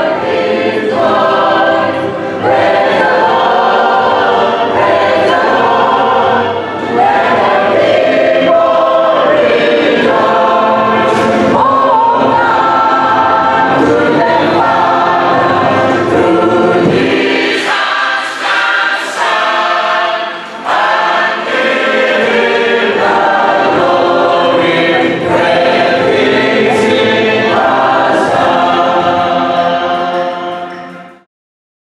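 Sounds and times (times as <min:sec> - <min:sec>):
choir singing a hymn: 0:00.0 - 0:31.2.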